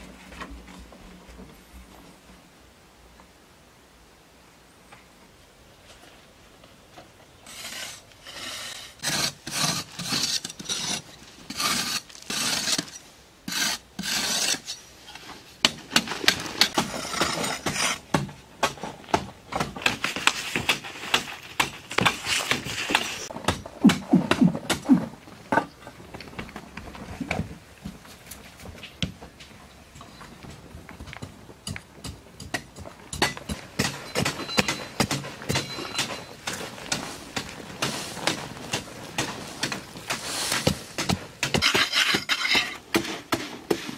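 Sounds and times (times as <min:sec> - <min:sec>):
scraping on dry earth wall: 0:05.8 - 0:43.9.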